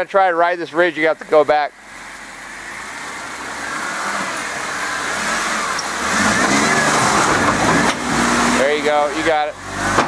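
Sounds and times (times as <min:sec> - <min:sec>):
tires churning through mud: 0:00.0 - 0:10.0
engine revving under load: 0:01.3 - 0:10.0.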